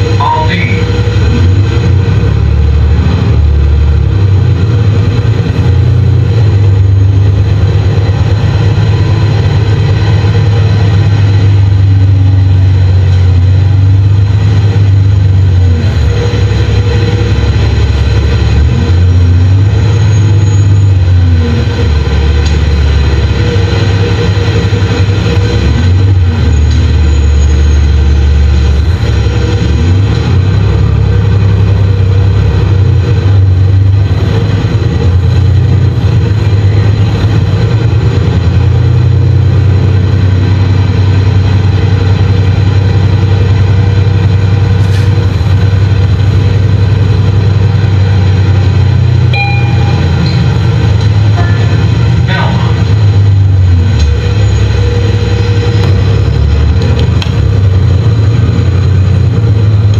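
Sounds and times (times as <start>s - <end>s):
bus engine drone: 0.0s - 59.9s.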